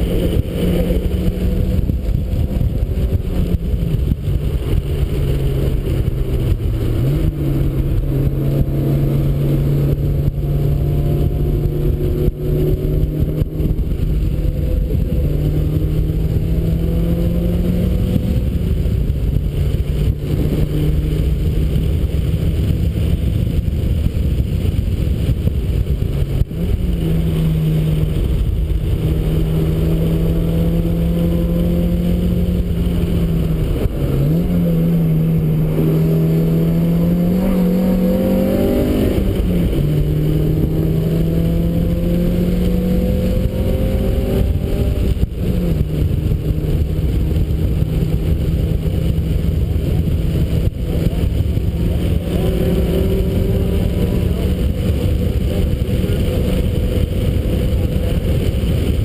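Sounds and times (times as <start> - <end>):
car engine running hard: 0.0 - 59.0
wind noise: 0.0 - 59.0.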